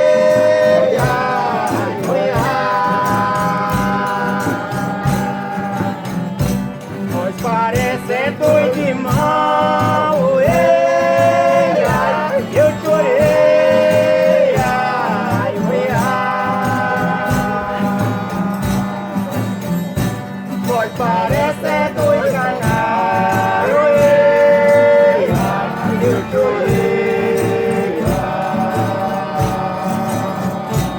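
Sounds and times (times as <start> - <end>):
tambourine-like percussion: 0.0 - 30.9
voices singing in harmony: 0.0 - 30.9.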